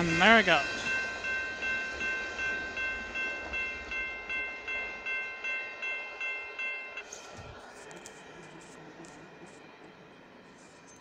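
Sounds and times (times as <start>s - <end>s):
faint low train rumble: 0.0s - 11.0s
railroad crossing bell ringing: 0.0s - 11.0s.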